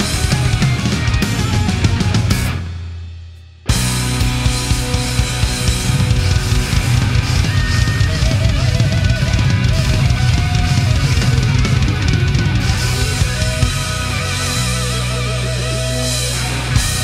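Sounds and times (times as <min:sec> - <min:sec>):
bending electric guitar lines: 0:00.0 - 0:02.8, 0:03.7 - 0:17.0
busy drum kit: 0:00.0 - 0:17.0
rock band instrumental: 0:00.0 - 0:17.0.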